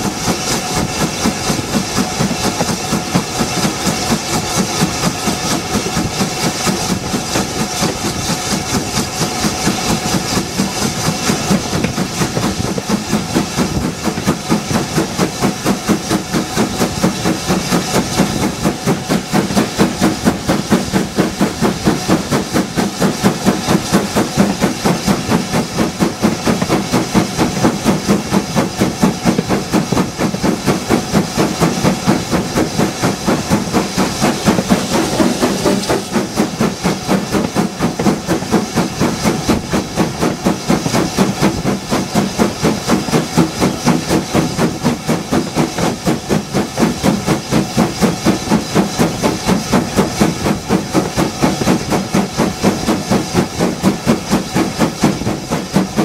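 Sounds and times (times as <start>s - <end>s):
rumble of train wheels: 0.0s - 56.0s
steam locomotive exhaust chuffs: 0.0s - 56.0s.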